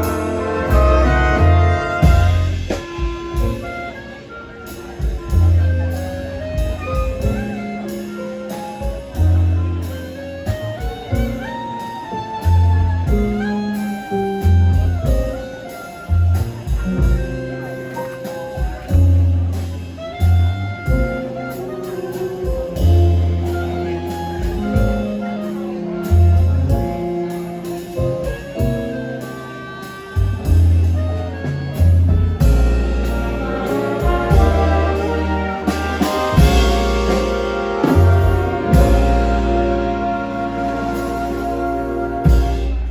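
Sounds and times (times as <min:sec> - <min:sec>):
jazz orchestra playing: 0:00.0 - 0:42.9
walking bass line: 0:00.0 - 0:42.9.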